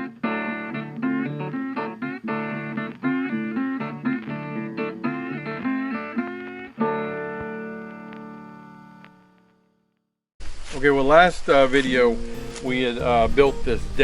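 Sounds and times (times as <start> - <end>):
plucked guitar notes: 0.0 - 9.4, 11.8 - 14.0
guitar chord ringing: 0.0 - 9.8, 11.8 - 14.0.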